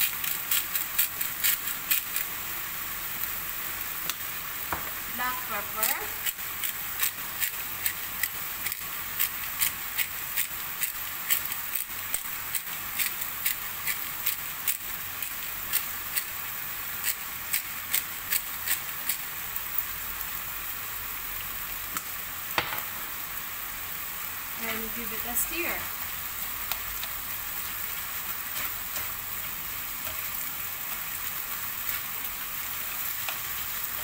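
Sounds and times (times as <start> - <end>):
meat sizzling in a frying pan: 0.0 - 34.0.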